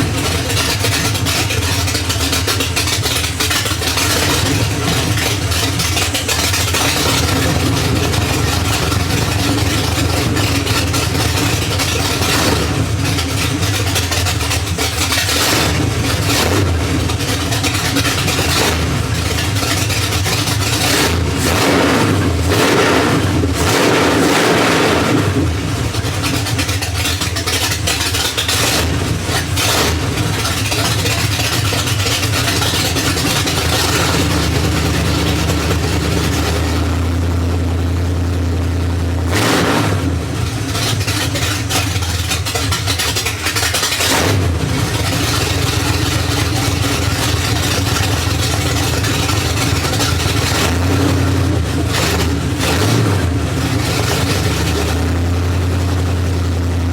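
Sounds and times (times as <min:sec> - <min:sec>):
car engine idling and revving: 0:00.0 - 0:56.9.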